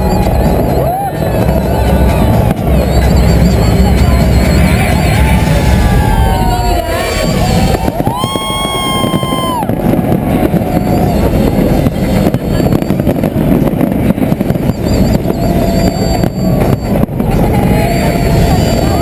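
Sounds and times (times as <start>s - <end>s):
fireworks barrage rumbling: 0.0s - 19.0s.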